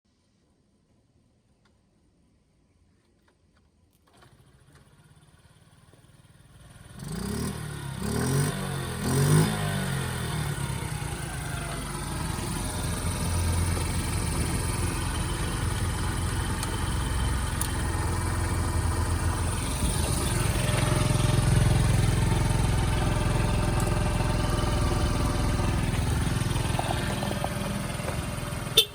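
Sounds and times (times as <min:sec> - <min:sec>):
motorcycle engine starting and revving: 0:04.0 - 0:28.9.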